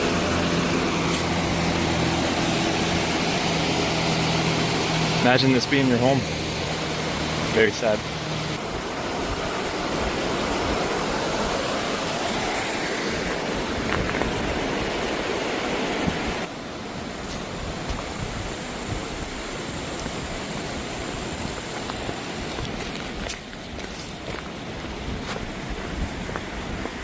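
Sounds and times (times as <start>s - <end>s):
rushing floodwater: 0.0s - 27.0s.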